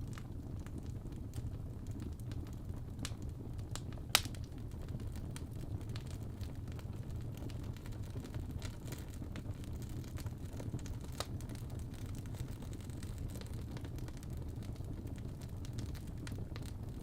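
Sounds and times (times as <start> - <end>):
fire crackles and pops: 0.0 - 17.0
low rumble of flames: 0.0 - 17.0.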